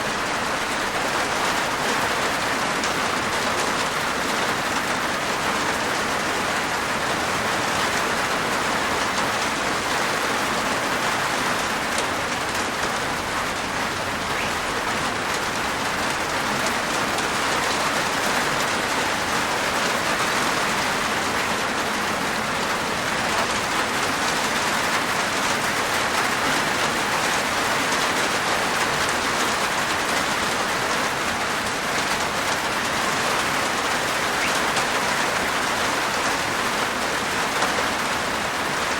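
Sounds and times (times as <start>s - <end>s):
rain on a rooftop: 0.0s - 38.9s.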